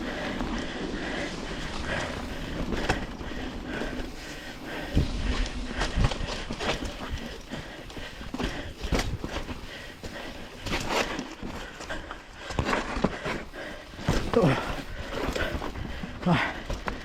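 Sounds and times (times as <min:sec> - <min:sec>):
wind and tyre noise: 0:00.0 - 0:17.0
bike knocking and clattering: 0:00.1 - 0:17.0.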